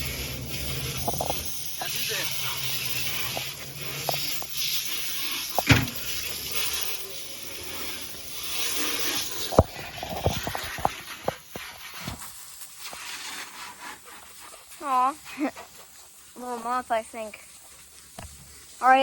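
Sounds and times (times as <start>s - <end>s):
garden hose spraying water: 0.0s - 19.0s.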